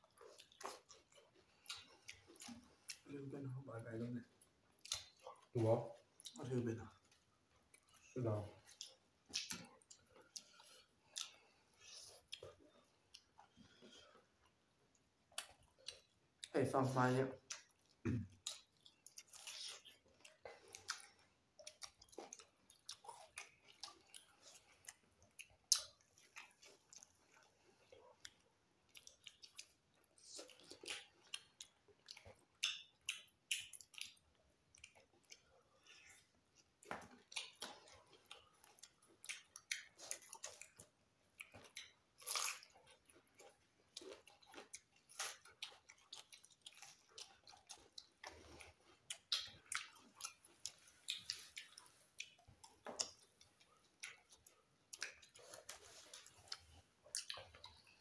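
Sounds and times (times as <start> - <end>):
people chewing and lip smacking: 0.0 - 58.0.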